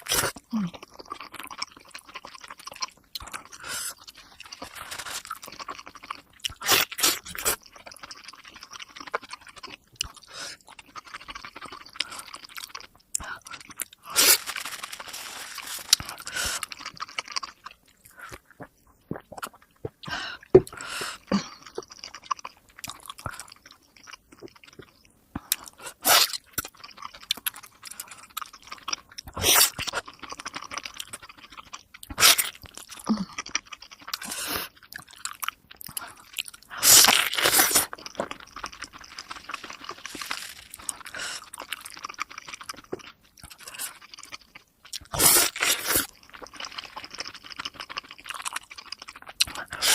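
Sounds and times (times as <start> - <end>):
wet chewing and crunching: 0.0 - 49.9.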